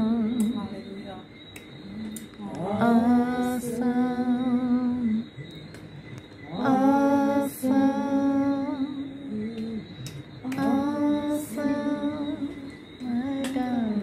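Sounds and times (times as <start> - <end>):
women singing long notes: 0.0 - 0.8, 1.9 - 5.4, 6.4 - 14.0.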